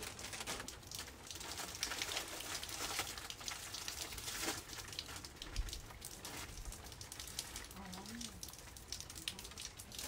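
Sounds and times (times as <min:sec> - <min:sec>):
raindrops ticking: 0:00.0 - 0:10.0
steady rain hiss: 0:00.0 - 0:10.0.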